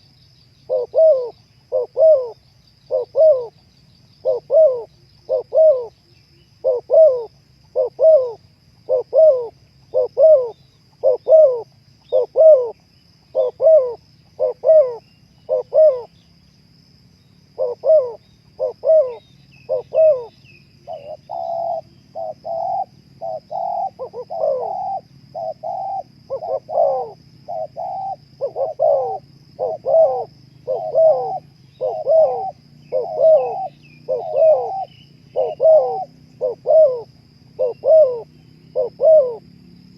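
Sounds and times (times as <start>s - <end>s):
small birds chirping: 0.0s - 16.6s, 17.2s - 39.9s
doves cooing: 0.7s - 3.6s, 4.2s - 16.2s, 17.5s - 39.6s.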